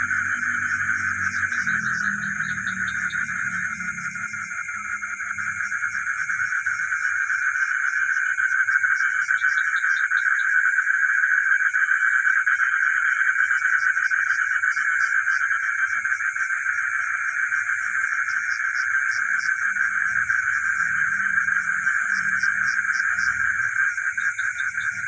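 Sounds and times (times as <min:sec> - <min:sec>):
frogs trilling: 0:00.0 - 0:25.0.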